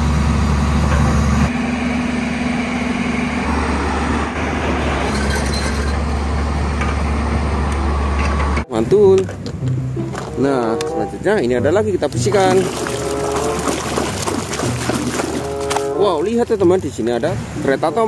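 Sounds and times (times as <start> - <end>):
excavator diesel engine drone: 0.0 - 18.0.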